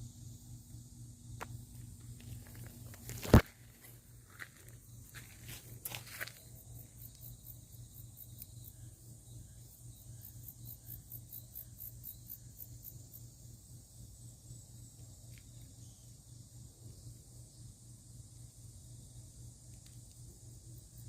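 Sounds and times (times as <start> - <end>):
cicadas chirping: 0.0 - 21.0
low steady hum: 0.0 - 21.0.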